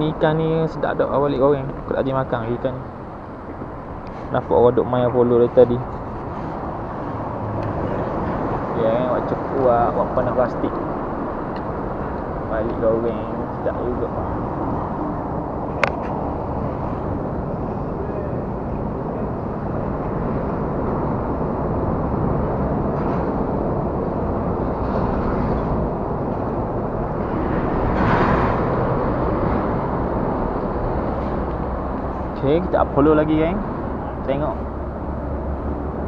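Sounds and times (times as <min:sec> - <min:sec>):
rumble of lorry traffic: 0:00.0 - 0:36.0.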